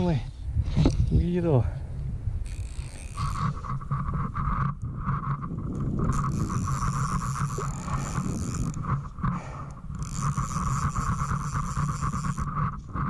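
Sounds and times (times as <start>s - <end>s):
fly reel drag ratcheting: 2.4s - 13.0s.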